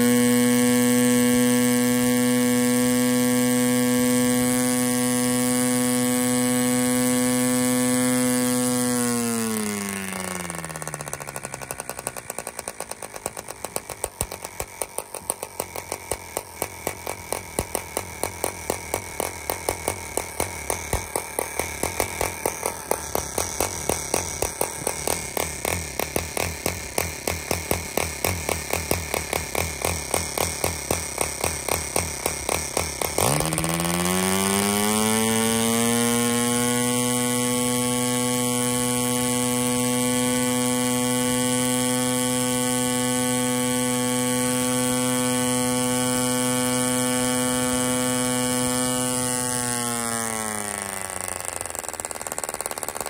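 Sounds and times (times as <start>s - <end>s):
model engine running: 0.0s - 53.0s.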